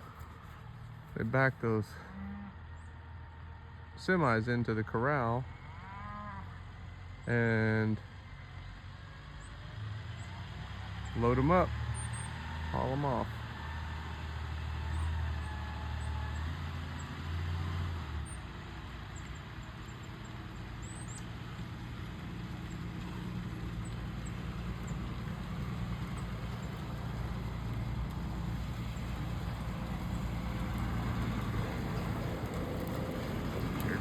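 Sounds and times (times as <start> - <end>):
vehicle engine humming: 0.0 - 5.8, 6.4 - 34.0.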